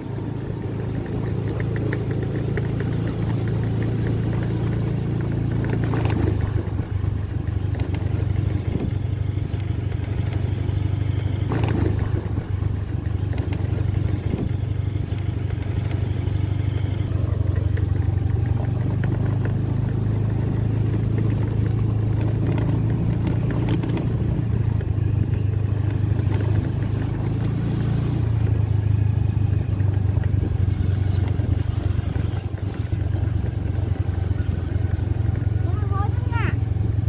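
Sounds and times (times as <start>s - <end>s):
motorcycle engine running: 0.0s - 37.0s
road noise: 0.0s - 37.0s.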